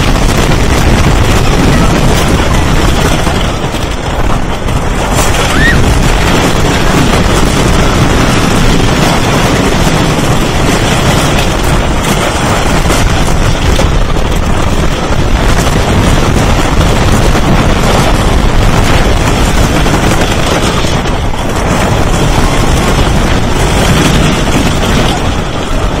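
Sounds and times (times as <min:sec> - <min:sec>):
roller coaster rattling on wooden track: 0:00.0 - 0:26.0
wind buffeting microphone: 0:00.0 - 0:26.0.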